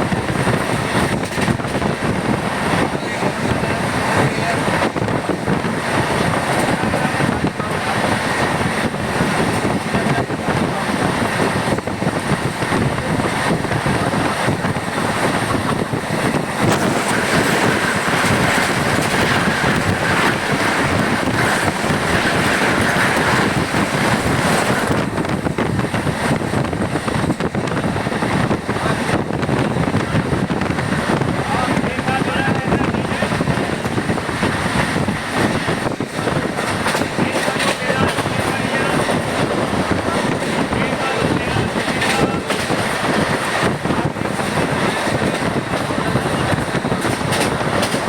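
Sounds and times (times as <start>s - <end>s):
train wheels rumbling on rails: 0.0s - 48.0s
wind rushing over microphone: 0.0s - 48.0s.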